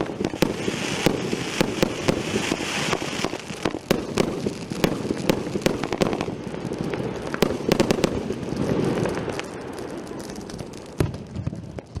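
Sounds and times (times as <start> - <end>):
firework bangs: 0.0 - 12.0
rushing firework noise: 0.0 - 12.0.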